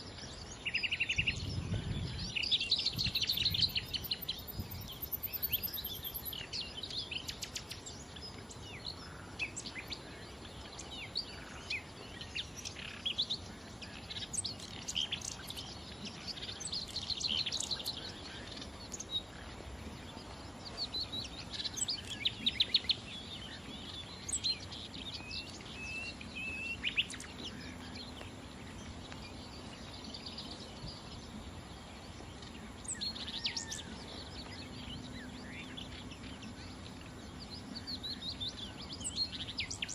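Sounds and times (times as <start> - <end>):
nightingale singing: 0.0 - 39.9
steady background hiss: 0.0 - 39.9.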